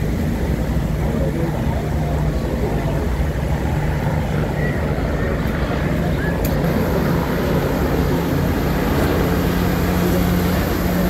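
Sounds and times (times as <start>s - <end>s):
helicopters flying overhead: 0.0s - 11.0s.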